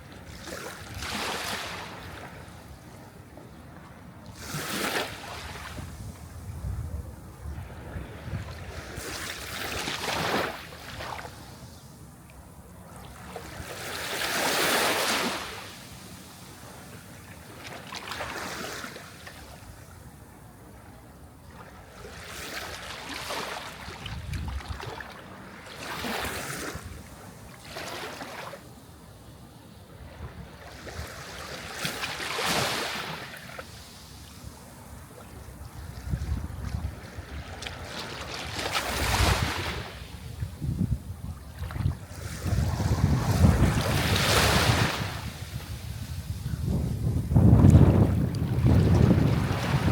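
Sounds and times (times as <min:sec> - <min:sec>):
sea waves breaking on shore: 0:00.0 - 0:02.5, 0:04.3 - 0:06.2, 0:07.6 - 0:11.8, 0:13.0 - 0:19.8, 0:21.5 - 0:28.7, 0:30.0 - 0:40.6, 0:41.4 - 0:49.9.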